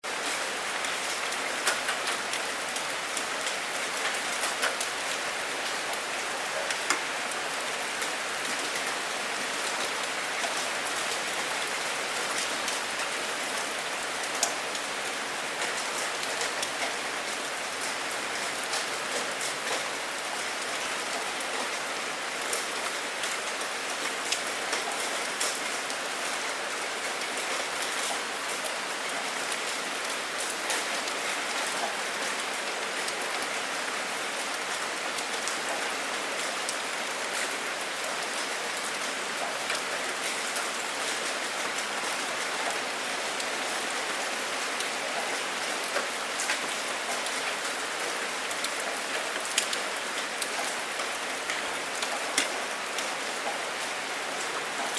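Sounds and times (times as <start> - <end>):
raindrops ticking on a surface: 0.1 - 54.9.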